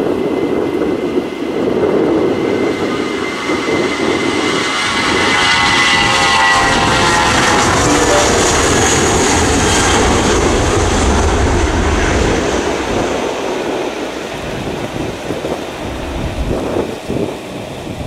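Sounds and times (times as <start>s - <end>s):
jet engine roar at takeoff: 0.0s - 18.0s.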